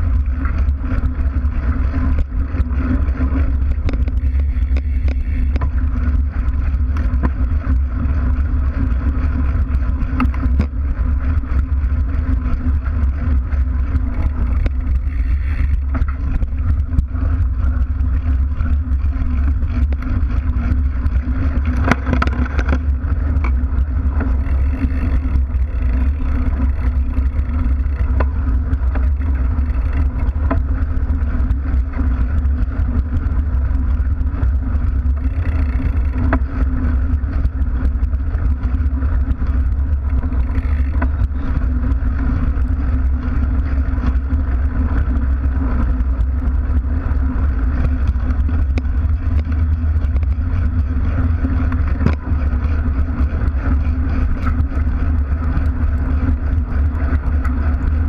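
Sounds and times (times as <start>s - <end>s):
bike tyre rumble on dirt: 0.0s - 58.0s
small clicks and rattles: 0.0s - 58.0s.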